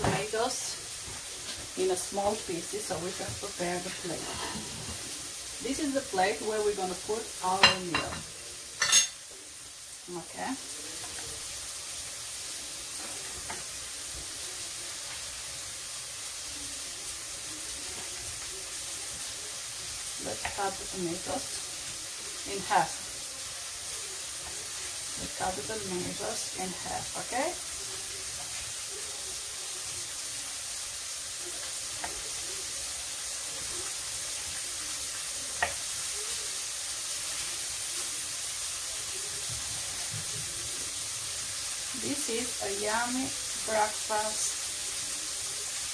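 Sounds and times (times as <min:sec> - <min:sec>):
mushrooms sizzling in a pan: 0:00.0 - 0:45.9.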